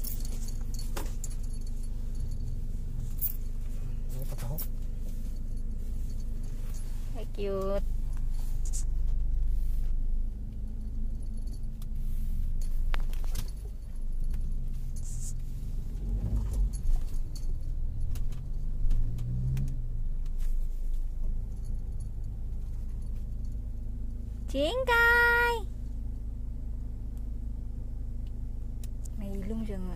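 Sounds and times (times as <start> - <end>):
light metallic jingling: 0.0 - 7.5, 8.1 - 26.0
car engine and road rumble: 0.0 - 29.9.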